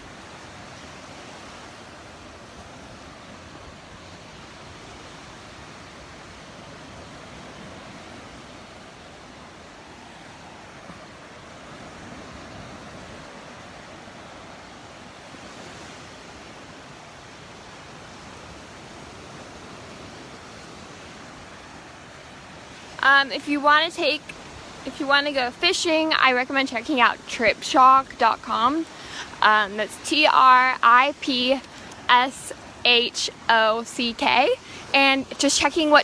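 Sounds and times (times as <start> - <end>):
ocean waves washing onto beach: 0.0 - 36.0.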